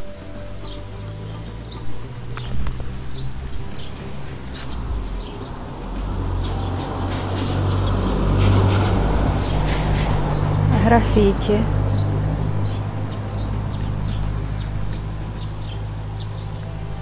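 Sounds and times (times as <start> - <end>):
low rumble with rushing noise: 0.0 - 17.0
small birds chirping: 0.0 - 17.0.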